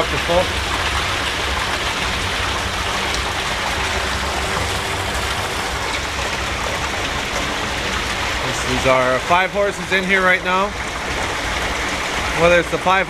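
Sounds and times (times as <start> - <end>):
water pouring from pipe into tank: 0.0 - 13.0.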